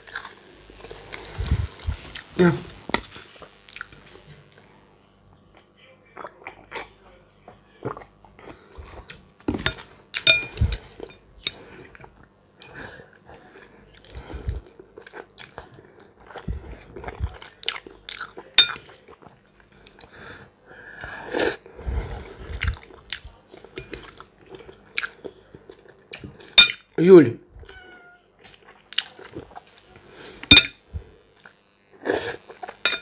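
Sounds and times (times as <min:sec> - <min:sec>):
person chewing food: 0:00.0 - 0:04.6, 0:07.8 - 0:20.2, 0:20.8 - 0:26.6, 0:28.4 - 0:33.0.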